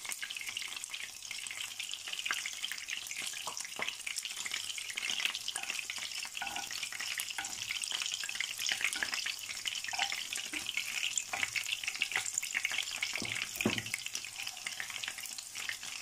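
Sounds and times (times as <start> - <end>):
oil sizzling in a skillet: 0.0 - 16.0.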